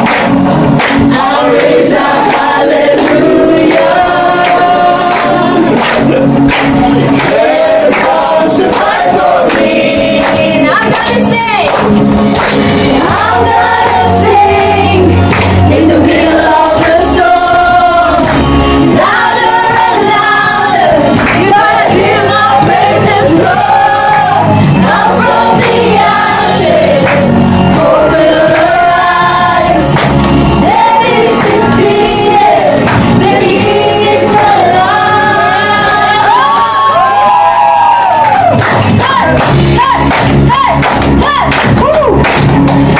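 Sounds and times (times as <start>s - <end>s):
backing music with bass: 0.0s - 42.9s
group singing worship song: 0.0s - 42.9s.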